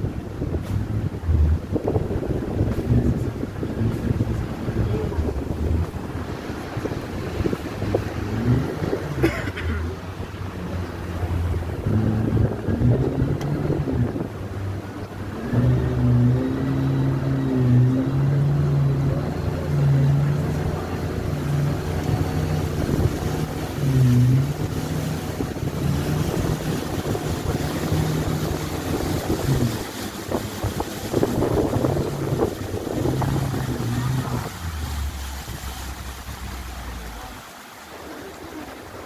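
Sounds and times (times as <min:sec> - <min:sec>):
outboard motor running: 0:00.0 - 0:39.0
water rushing past hull: 0:00.0 - 0:39.0
wind buffeting microphone: 0:00.0 - 0:39.0.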